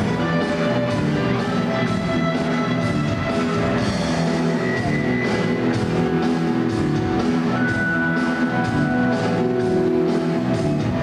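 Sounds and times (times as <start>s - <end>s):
drum kit beat: 0.0s - 11.0s
electric guitar: 0.0s - 11.0s
keyboard notes: 0.0s - 11.0s.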